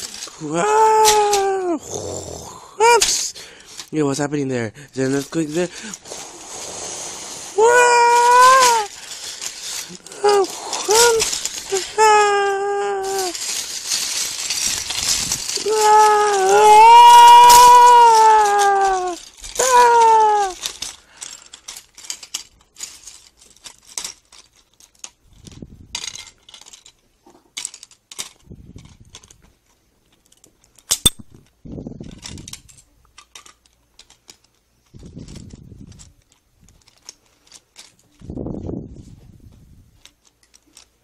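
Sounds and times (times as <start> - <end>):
plastic bricks clattering: 0.0 - 4.2, 4.9 - 38.7, 40.0 - 41.0.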